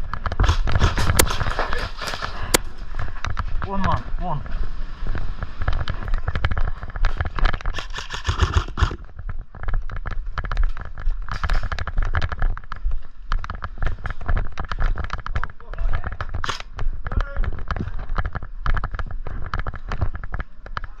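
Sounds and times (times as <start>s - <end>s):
handling noise on microphone: 0.0s - 21.0s.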